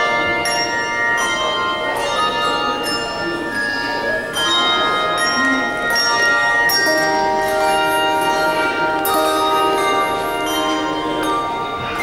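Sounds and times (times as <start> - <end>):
handbell choir ringing chords: 0.0 - 12.0.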